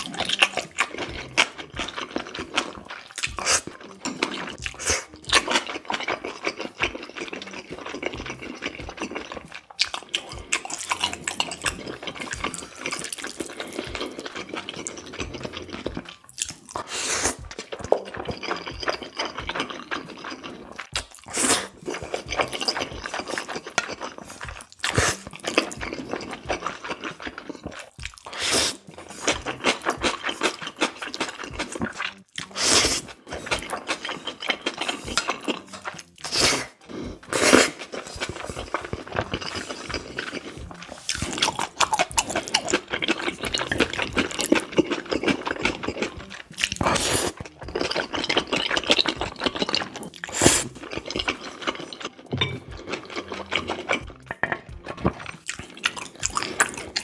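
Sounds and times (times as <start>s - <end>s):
slurping noodles: 0.0s - 57.0s
wet chewing and lip smacking: 0.0s - 57.0s.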